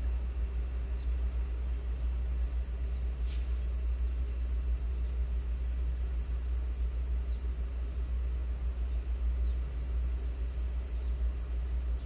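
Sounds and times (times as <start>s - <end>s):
car idling low rumble: 0.0s - 12.0s.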